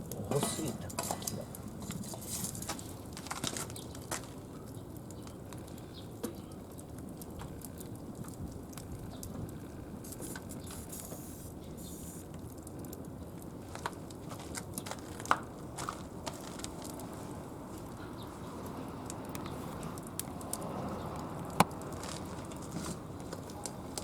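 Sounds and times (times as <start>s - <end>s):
fire crackling and popping: 0.0s - 24.0s
wood fire rushing flame: 0.0s - 24.0s.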